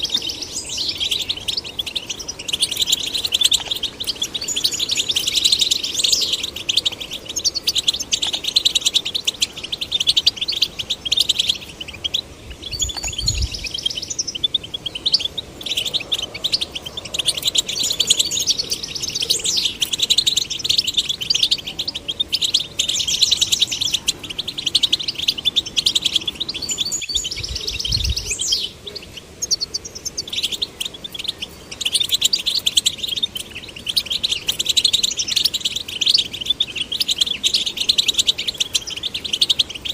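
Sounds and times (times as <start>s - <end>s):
finches twittering: 0.0s - 39.9s.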